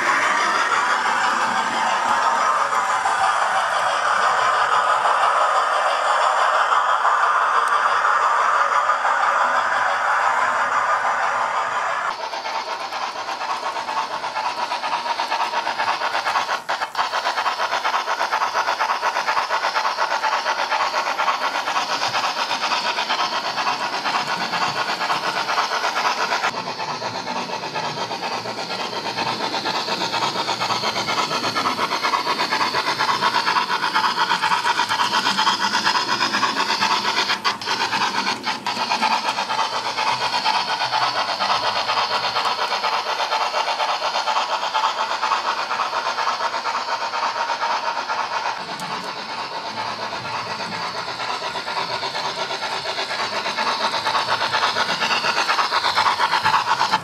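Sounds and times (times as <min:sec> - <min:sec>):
model train motor hum: 0:00.0 - 0:57.0
wheels on track: 0:00.0 - 0:57.0.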